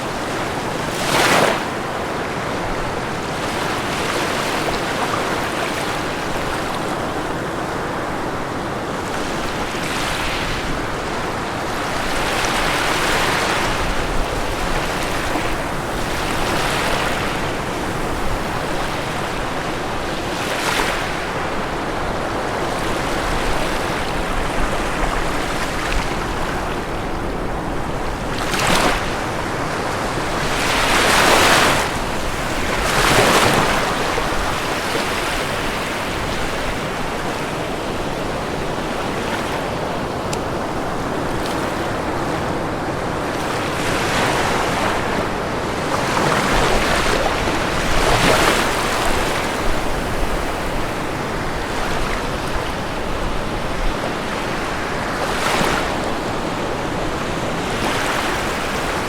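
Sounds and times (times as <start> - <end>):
ocean surf washing onto shore: 0.0 - 59.0
waves breaking: 0.0 - 59.0.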